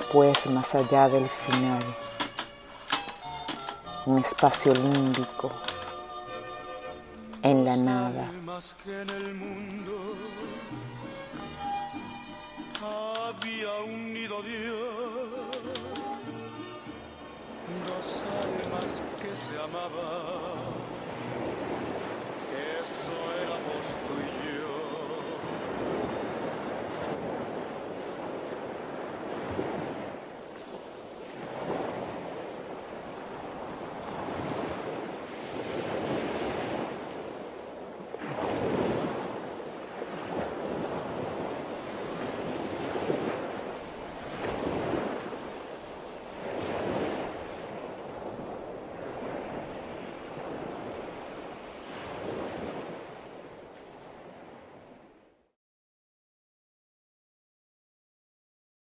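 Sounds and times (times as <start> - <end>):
sea waves washing in: 0.0 - 55.4.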